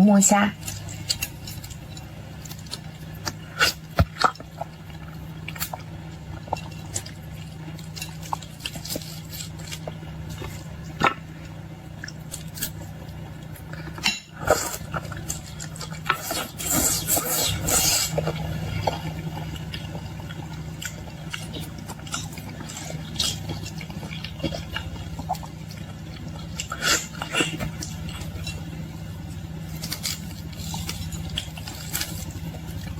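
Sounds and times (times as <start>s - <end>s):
steady low hum: 0.0s - 32.9s
wet squishing and chewing: 0.6s - 32.9s.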